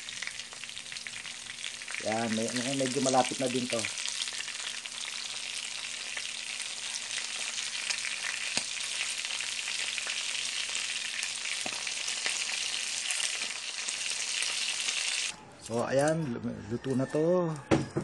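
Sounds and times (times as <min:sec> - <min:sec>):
frying in hot oil sizzle: 0:00.0 - 0:15.4.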